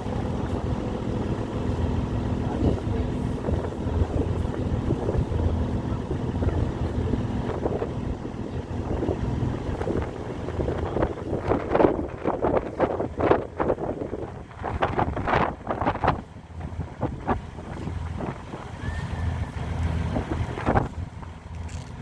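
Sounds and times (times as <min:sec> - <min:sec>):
boat engine droning: 0:00.0 - 0:22.0
wind buffeting microphone: 0:00.0 - 0:22.0.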